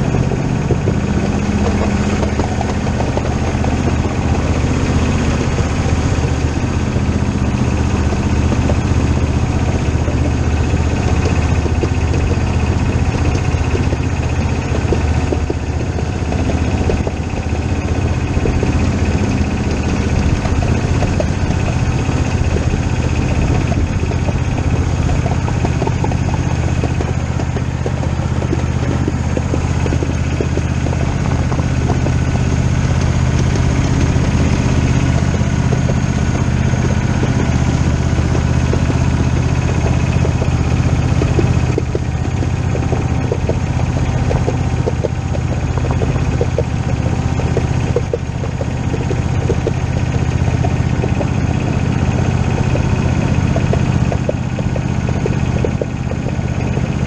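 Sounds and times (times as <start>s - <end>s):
motor running steadily: 0.0s - 57.0s.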